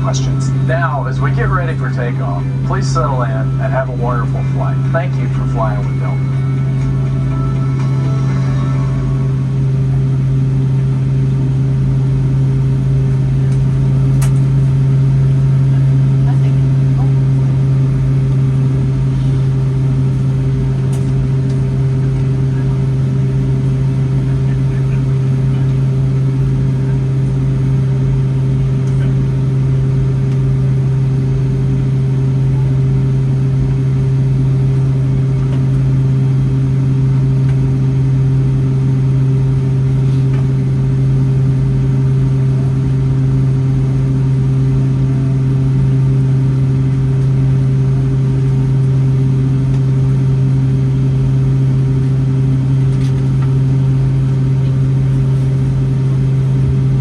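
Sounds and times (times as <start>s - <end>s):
air-conditioning hum: 0.0s - 57.0s
jet engines idling: 0.0s - 57.0s.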